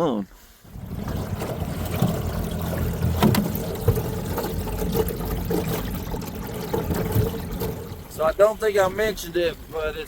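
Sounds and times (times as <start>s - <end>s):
water splashing against hull: 0.4s - 10.0s
boat motor running: 0.7s - 9.2s.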